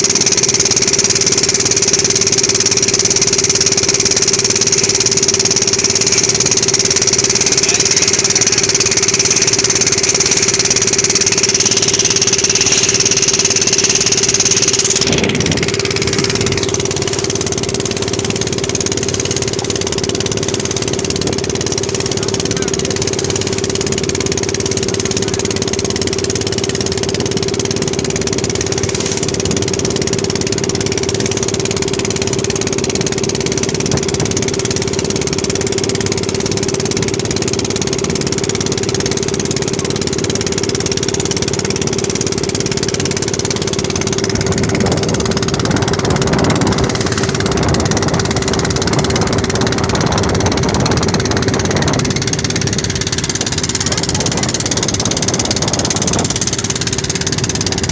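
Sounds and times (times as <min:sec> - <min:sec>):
engine humming steadily: 0:00.0 - 0:57.9.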